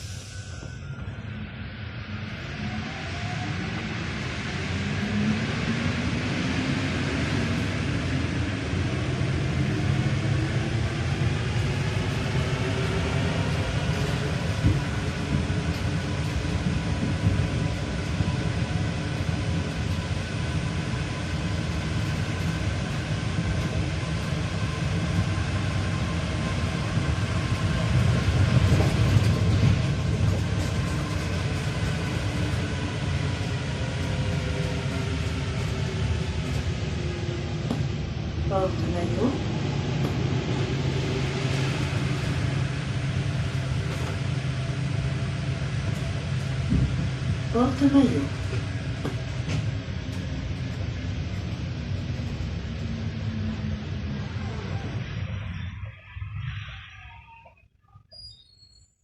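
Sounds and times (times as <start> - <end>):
train traction motors whining: 0.0 - 57.7
train rumble: 0.0 - 59.0.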